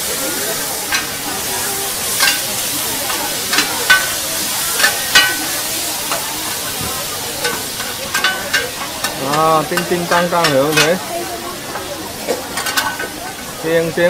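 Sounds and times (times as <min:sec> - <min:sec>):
noodles and egg sizzling in a pan: 0:00.0 - 0:14.0
metal spatulas scraping a pan: 0:00.8 - 0:11.1, 0:11.7 - 0:13.6.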